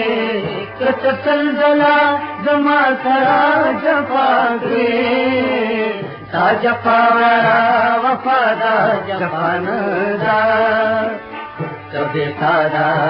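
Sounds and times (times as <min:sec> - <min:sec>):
instrumental accompaniment: 0:00.0 - 0:13.0
man singing: 0:00.0 - 0:13.0.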